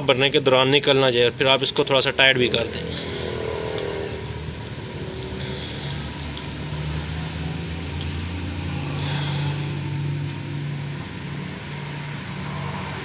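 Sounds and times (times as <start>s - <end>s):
engine humming: 1.8s - 13.0s.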